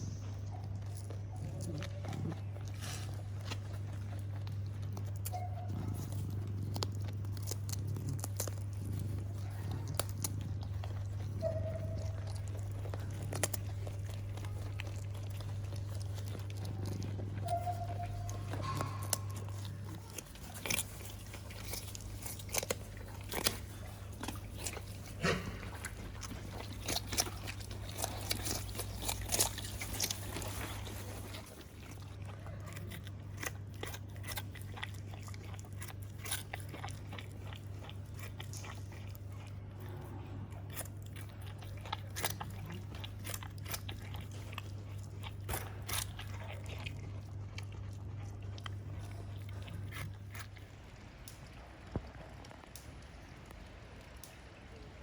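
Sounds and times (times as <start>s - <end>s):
animal chewing crisp food: 0.0s - 55.0s
steady low hum: 0.0s - 55.0s.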